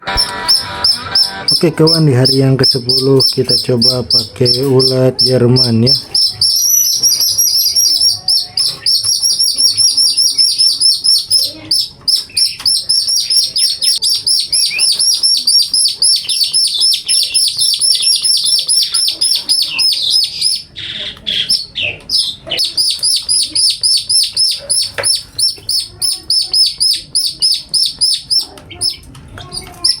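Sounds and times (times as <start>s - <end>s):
songbird calling: 0.0s - 30.0s.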